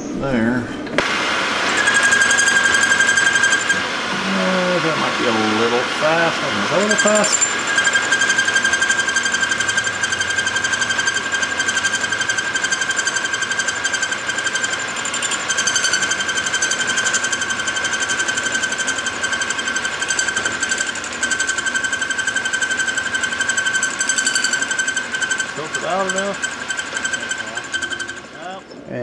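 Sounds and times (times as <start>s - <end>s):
milling machine whining: 0.8s - 28.7s.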